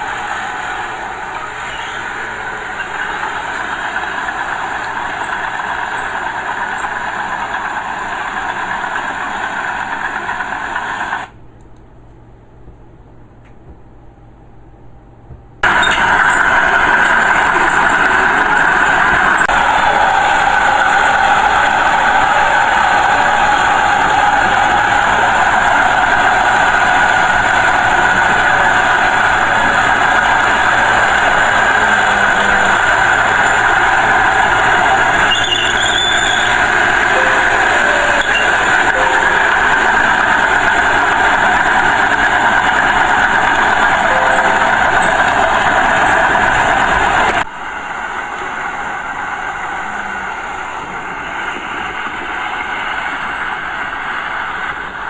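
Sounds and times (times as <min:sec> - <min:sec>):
bulldozer diesel engine: 0:00.0 - 0:11.4, 0:15.6 - 0:55.0.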